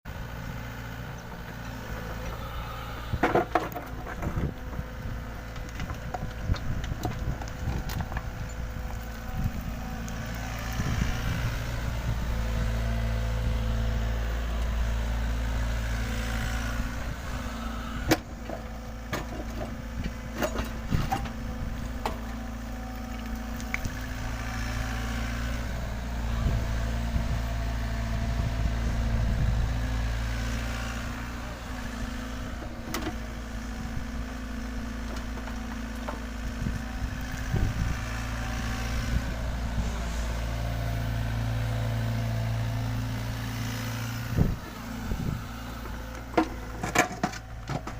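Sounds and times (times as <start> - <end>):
excavator diesel engine running: 0.1 - 47.9.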